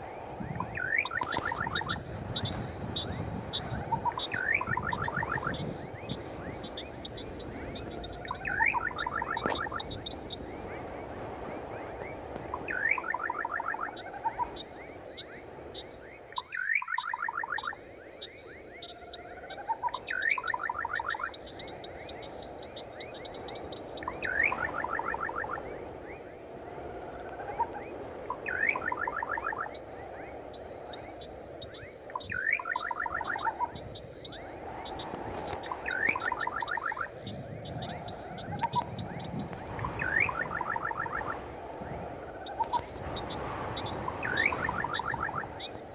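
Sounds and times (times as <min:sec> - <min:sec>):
insects chirping: 0:00.0 - 0:45.9
night bird calling: 0:00.0 - 0:45.9
steady background hiss: 0:00.0 - 0:45.9.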